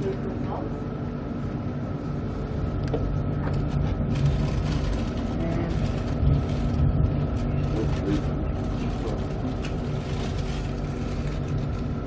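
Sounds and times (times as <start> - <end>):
constant hum: 0.0 - 12.0
train rumble and rattle: 0.0 - 12.0.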